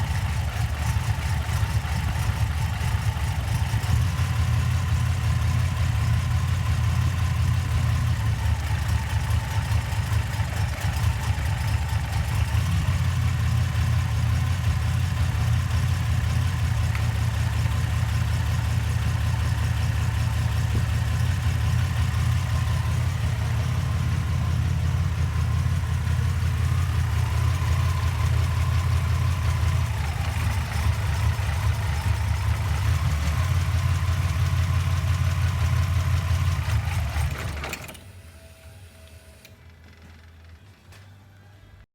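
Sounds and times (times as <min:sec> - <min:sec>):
car engine idling with misfire: 0:00.0 - 0:38.2.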